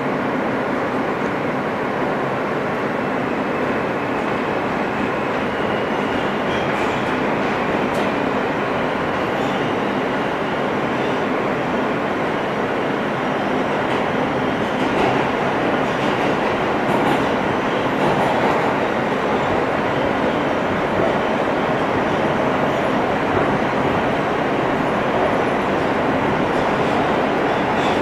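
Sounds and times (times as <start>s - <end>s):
subway car wheels rumbling on rail: 0.0s - 28.0s.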